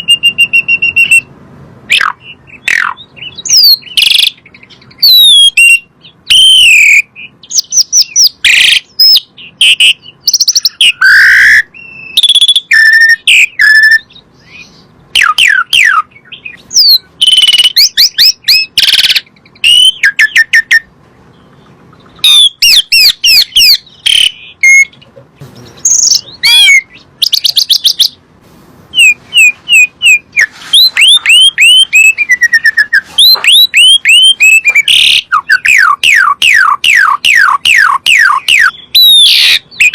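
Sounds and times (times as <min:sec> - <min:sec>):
starling whistling and chattering: 0:00.0 - 0:01.3, 0:01.9 - 0:28.2, 0:28.9 - 0:39.9.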